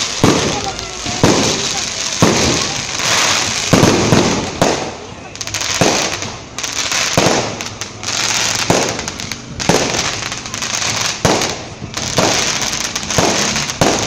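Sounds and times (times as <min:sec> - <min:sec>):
fireworks bangs: 0:00.0 - 0:14.0
fireworks crackling and hissing: 0:00.0 - 0:14.0.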